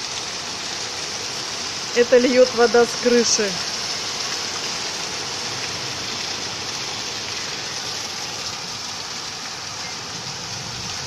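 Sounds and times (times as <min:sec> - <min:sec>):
heavy rain: 0:00.0 - 0:11.0
water pouring off a roof: 0:00.0 - 0:11.0.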